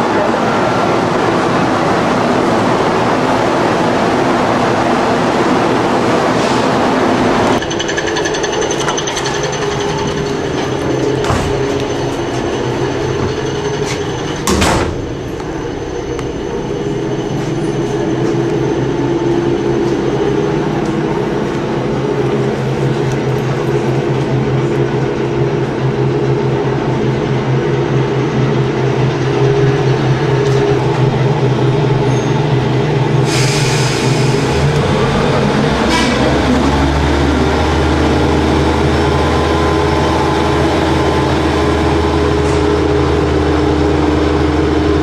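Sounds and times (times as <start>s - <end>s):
diesel engine drone: 0.0s - 45.0s
wheel and rail noise: 0.0s - 45.0s.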